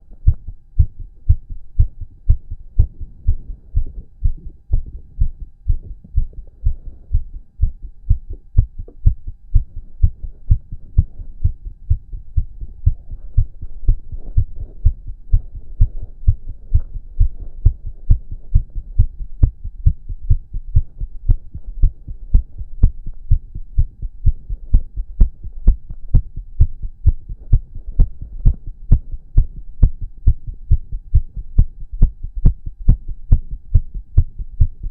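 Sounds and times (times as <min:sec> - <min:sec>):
faint hum: 0:00.0 - 0:34.9
heartbeat thumps: 0:00.0 - 0:34.9.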